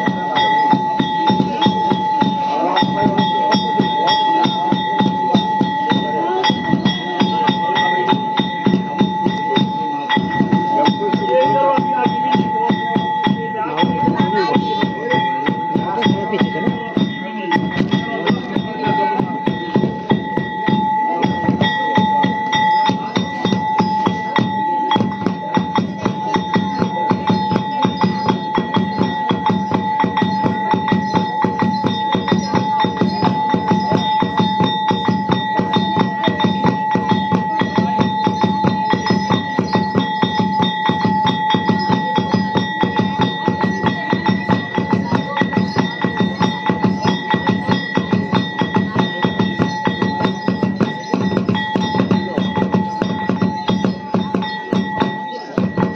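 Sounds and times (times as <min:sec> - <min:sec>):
fast drum beats: 0:00.0 - 0:55.9.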